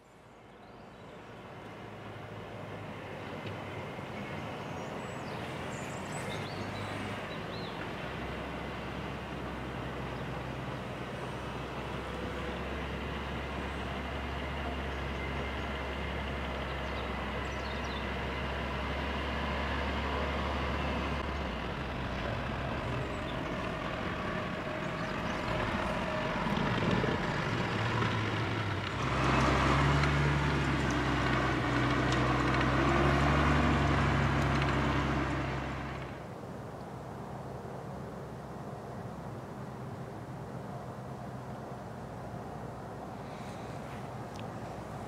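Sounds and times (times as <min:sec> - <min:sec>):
motor vehicle engine hum: 0:00.0 - 0:45.0.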